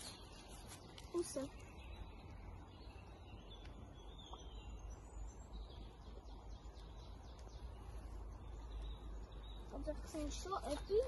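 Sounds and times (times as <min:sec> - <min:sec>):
faint bird chirps and calls: 0:00.0 - 0:11.0.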